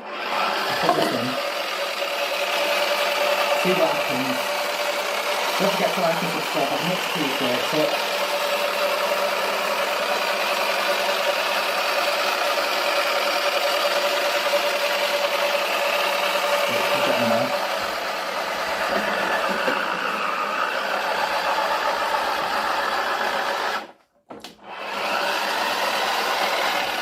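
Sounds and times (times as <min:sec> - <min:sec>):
toy washing machine motor whirring: 0:00.0 - 0:23.9, 0:24.6 - 0:27.0.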